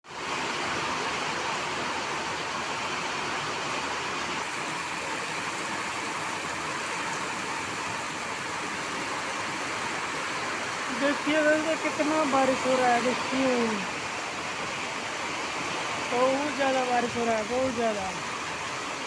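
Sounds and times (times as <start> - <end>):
heavy rain pouring: 0.1 - 19.0.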